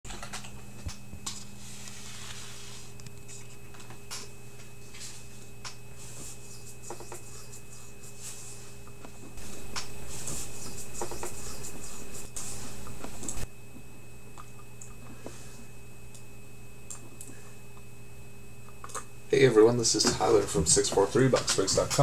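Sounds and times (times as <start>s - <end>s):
electrical hum: 0.1s - 22.0s.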